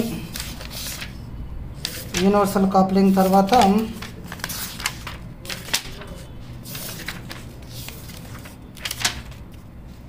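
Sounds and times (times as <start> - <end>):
book pages turning: 0.1 - 1.2, 1.8 - 10.0.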